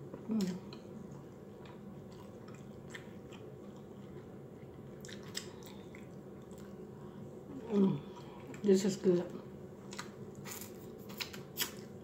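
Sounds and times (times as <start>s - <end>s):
person chewing food: 0.0s - 8.6s, 9.8s - 12.0s.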